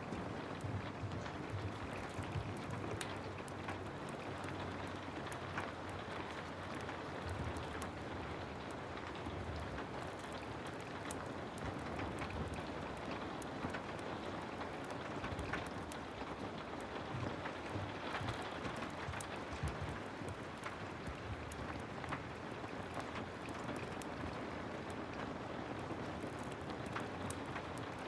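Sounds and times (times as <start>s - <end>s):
heavy rain falling: 0.0s - 28.0s
wood fire crackling: 0.0s - 28.0s.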